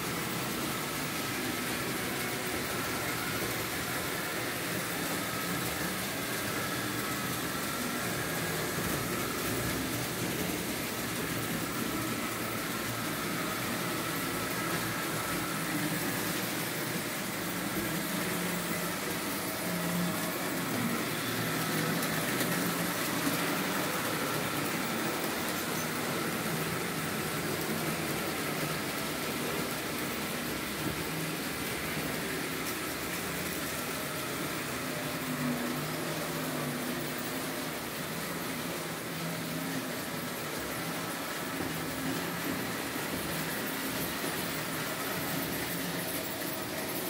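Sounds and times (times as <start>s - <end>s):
model train motors whirring: 0.0s - 47.0s.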